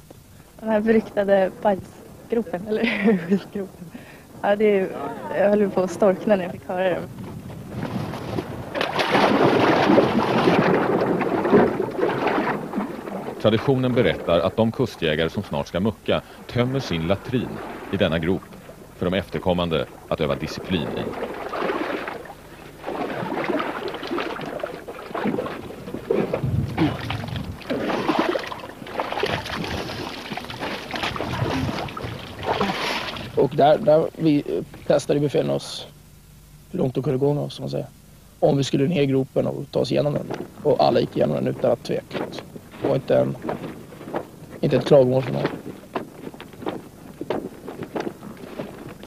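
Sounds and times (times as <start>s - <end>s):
water splashing and sloshing: 0.0s - 35.3s, 39.9s - 49.0s.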